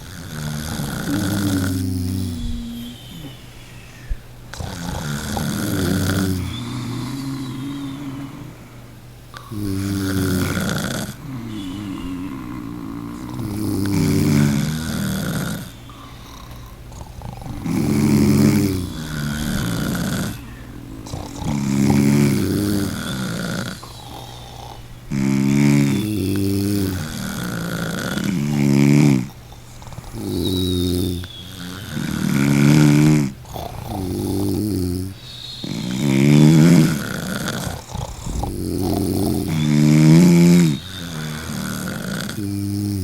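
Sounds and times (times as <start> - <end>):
person snoring: 0.0 - 43.0.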